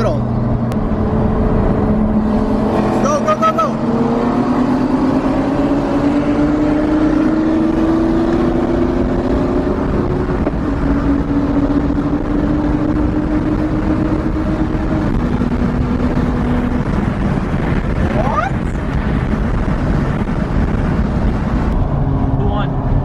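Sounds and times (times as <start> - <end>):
car engine at full throttle: 0.0 - 23.0
road and wind noise: 0.0 - 23.0.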